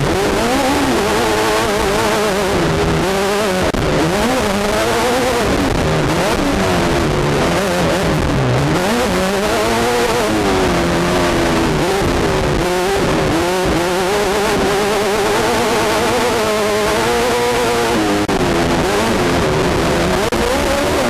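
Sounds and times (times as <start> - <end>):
race car engine revving: 0.0 - 21.0.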